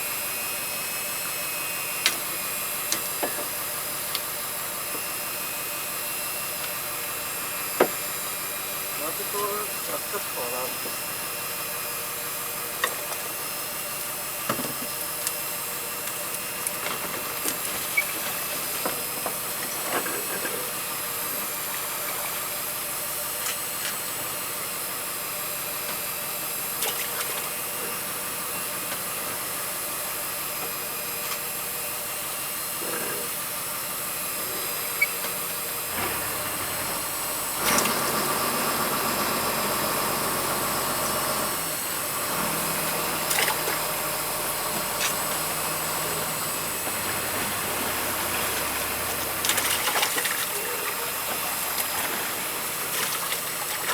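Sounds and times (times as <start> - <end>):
boat motor hum: 0.0 - 53.9.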